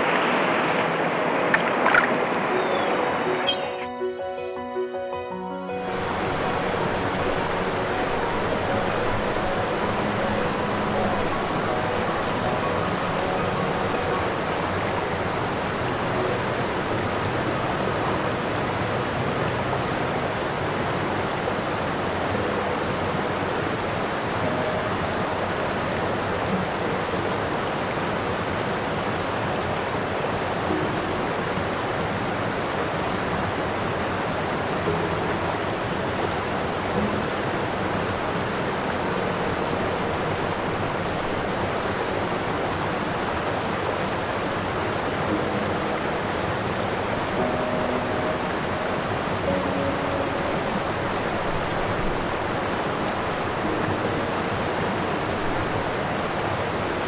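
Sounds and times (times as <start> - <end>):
steady rushing noise: 0.0 - 3.4, 5.8 - 57.0.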